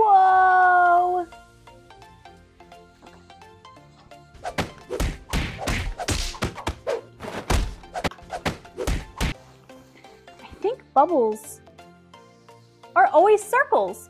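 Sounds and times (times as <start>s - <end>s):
light background music: 0.0s - 14.0s.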